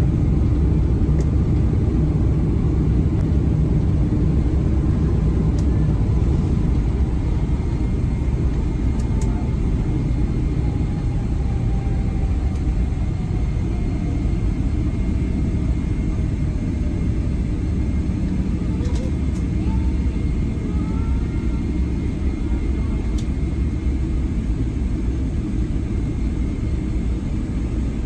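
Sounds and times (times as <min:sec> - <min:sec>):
wheels rumbling on runway: 0:00.0 - 0:24.5
jet engine whine falling: 0:00.0 - 0:28.0.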